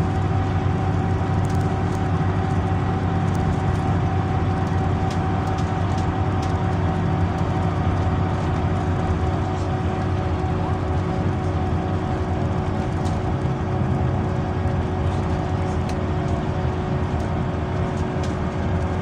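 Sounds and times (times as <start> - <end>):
bus engine and road rumble: 0.0 - 19.0
constant whine: 0.0 - 19.0.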